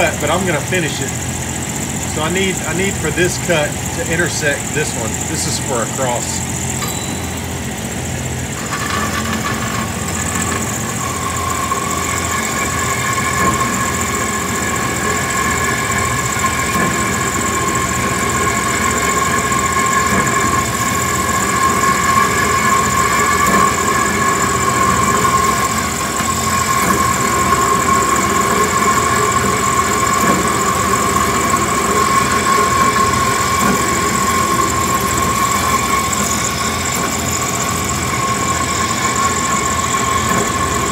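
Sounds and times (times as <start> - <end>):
high-pitched ringing cutting tone: 0.0 - 40.9
machine running rumble: 0.0 - 40.9
bandsaw cutting steel: 2.1 - 40.9.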